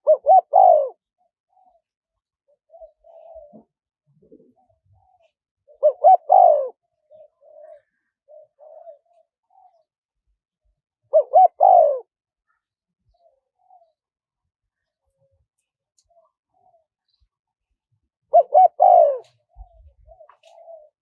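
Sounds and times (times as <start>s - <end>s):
dove cooing: 0.0s - 9.9s, 11.0s - 14.0s, 16.0s - 17.2s, 18.3s - 21.0s.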